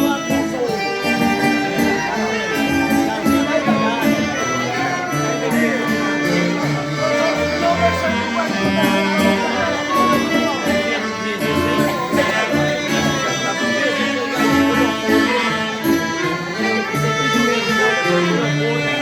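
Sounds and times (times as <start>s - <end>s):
live dance band music: 0.0s - 19.0s.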